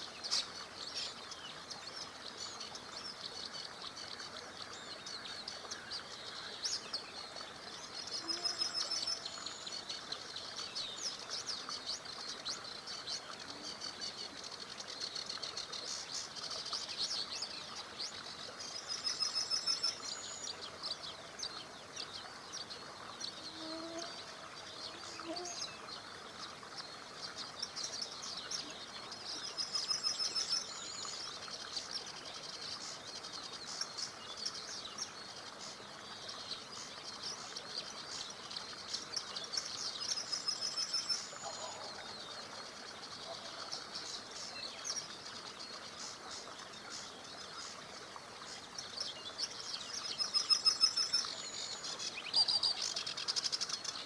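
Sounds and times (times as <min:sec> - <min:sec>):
small river rushing: 0:00.0 - 0:54.0
songbirds singing: 0:00.0 - 0:54.0.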